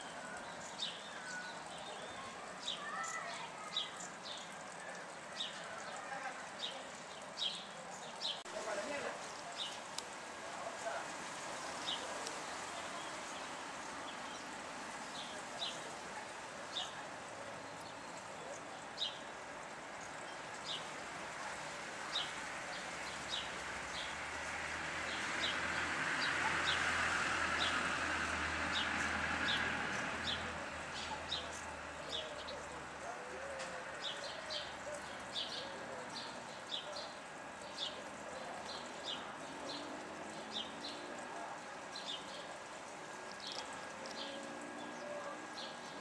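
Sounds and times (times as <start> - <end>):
sparrows chirping: 0.0 - 46.0.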